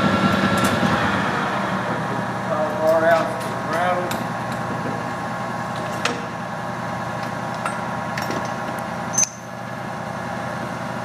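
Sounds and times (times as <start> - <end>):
metal lathe running: 0.0 - 11.0.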